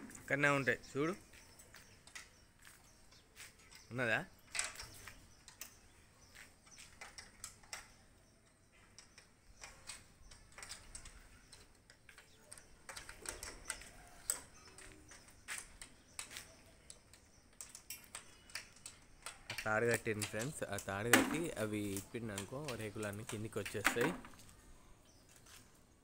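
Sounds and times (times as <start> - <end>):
bolts clicking and tapping: 0.0 - 24.5.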